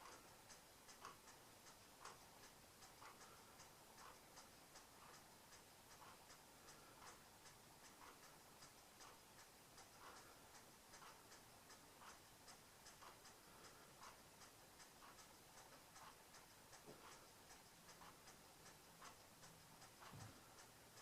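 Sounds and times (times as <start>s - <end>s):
faint regular ticking: 0.0s - 21.0s.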